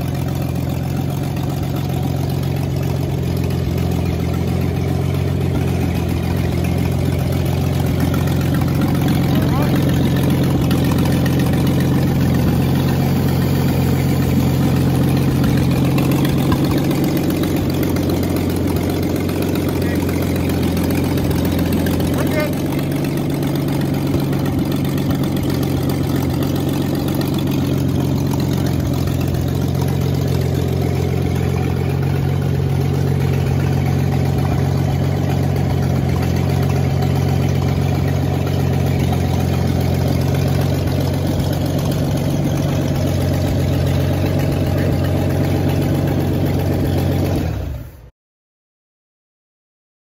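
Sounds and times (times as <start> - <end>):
engine idling: 0.0 - 48.1.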